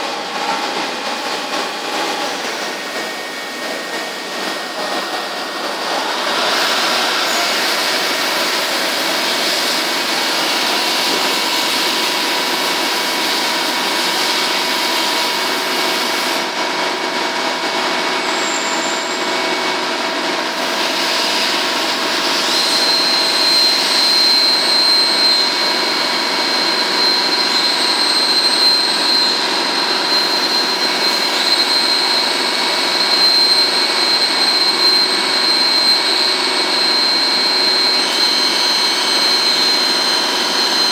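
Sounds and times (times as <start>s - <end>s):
high whine: 0.0s - 40.9s
lathe mechanical noise: 0.0s - 40.9s.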